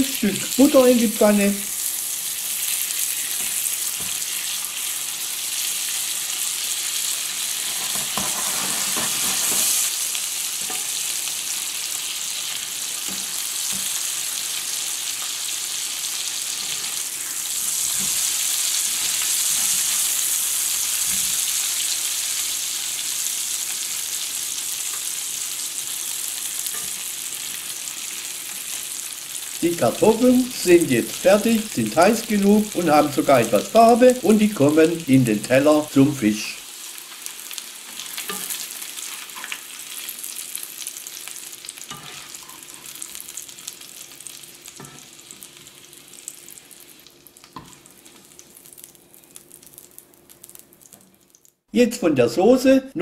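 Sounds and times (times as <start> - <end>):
potatoes sizzling in a pan: 0.0 - 51.7.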